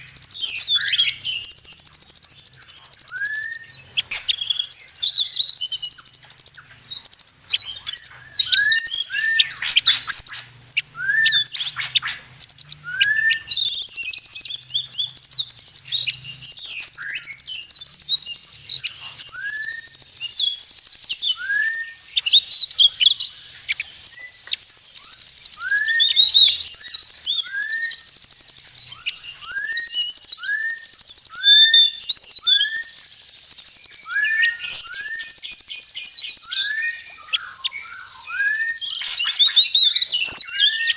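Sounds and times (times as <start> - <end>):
rapid high bird trill: 0.0 - 40.9.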